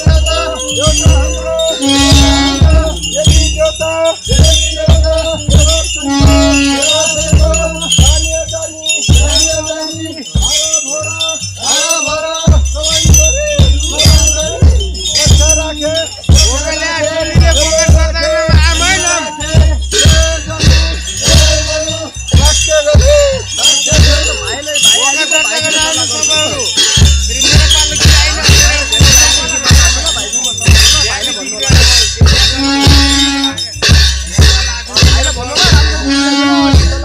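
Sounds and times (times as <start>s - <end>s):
drum strikes: 0.0s - 37.0s
jingling bells: 0.0s - 37.0s
wavering melody: 0.0s - 37.0s.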